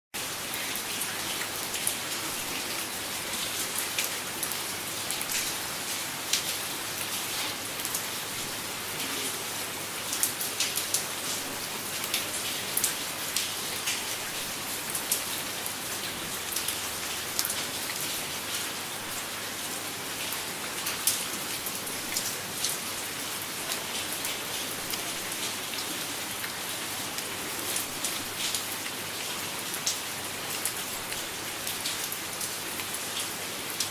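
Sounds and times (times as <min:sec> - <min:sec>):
raindrops pattering on surface: 0:00.2 - 0:33.9.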